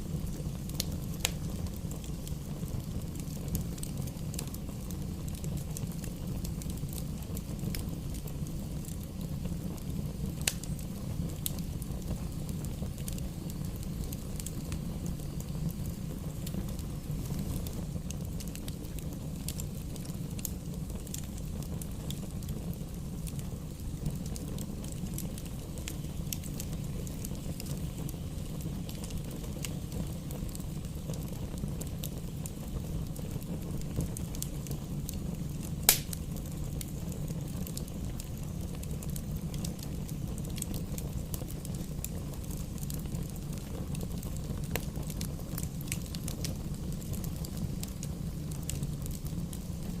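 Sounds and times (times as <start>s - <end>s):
fire crackles and pops: 0.0s - 50.0s
low rumble of flames: 0.0s - 50.0s.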